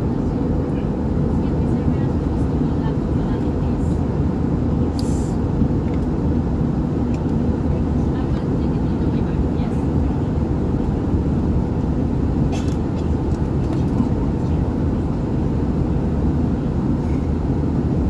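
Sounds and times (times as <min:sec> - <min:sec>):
airplane cabin engine roar: 0:00.0 - 0:18.0
faint passenger voices: 0:00.0 - 0:18.0.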